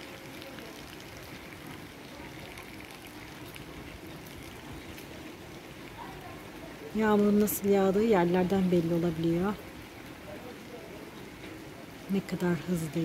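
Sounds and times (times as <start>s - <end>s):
rain falling on pavement: 0.0s - 13.0s.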